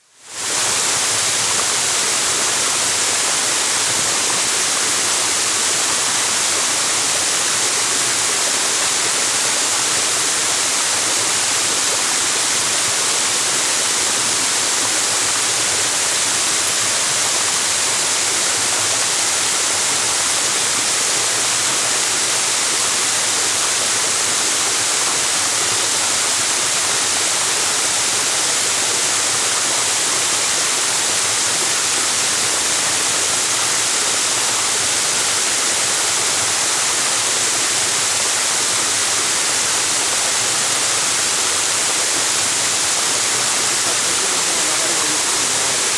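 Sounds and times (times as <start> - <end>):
waterfall running: 0.0 - 45.9.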